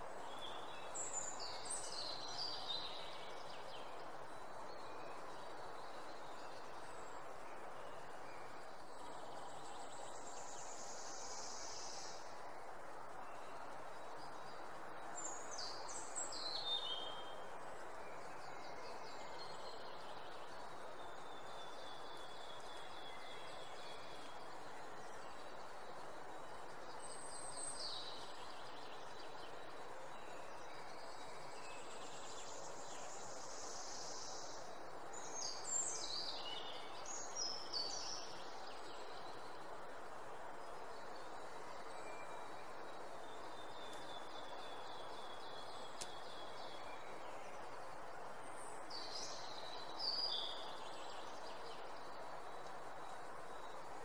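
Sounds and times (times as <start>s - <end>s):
outdoor ambience hiss: 0.0s - 54.0s
songbird singing: 0.0s - 54.0s.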